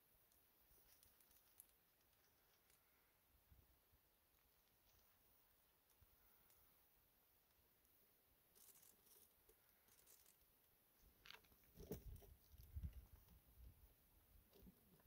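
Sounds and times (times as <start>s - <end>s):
faint rustles: 0.2s - 15.0s.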